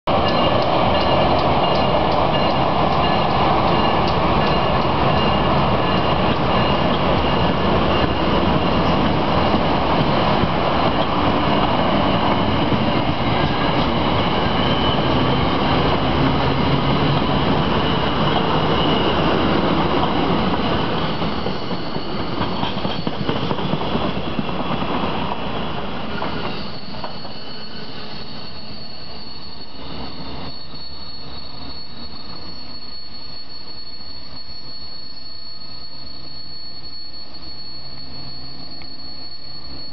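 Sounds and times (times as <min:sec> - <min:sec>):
thin steady high tones: 0:00.1 - 0:39.9
train wheels rumbling on track: 0:00.1 - 0:39.9.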